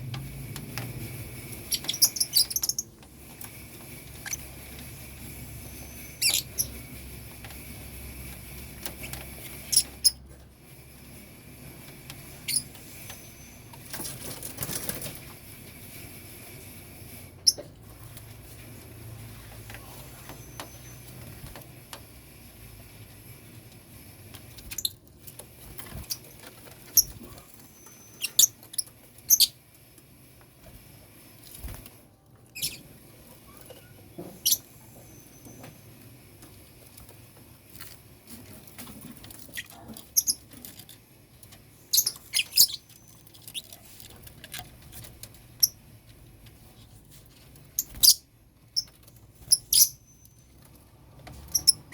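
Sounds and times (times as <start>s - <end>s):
lovebirds chirping and squeaking: 0.8s - 15.3s, 15.9s - 18.1s, 19.2s - 21.8s, 23.9s - 30.3s, 32.5s - 37.0s, 38.4s - 45.9s, 47.4s - 51.9s.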